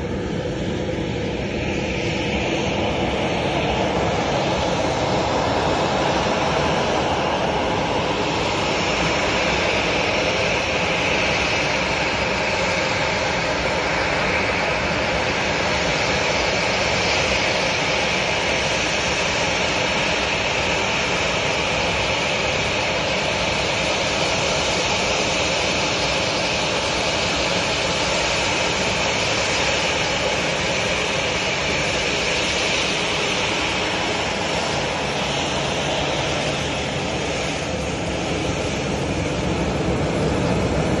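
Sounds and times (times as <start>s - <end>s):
jet engines whining: 0.0s - 41.0s.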